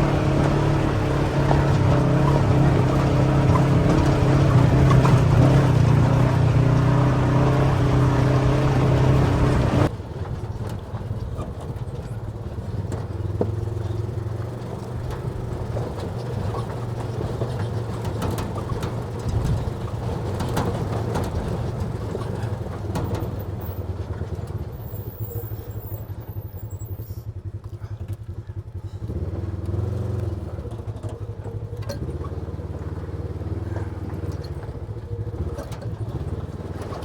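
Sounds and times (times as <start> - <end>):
vehicle engine running: 0.0 - 37.0.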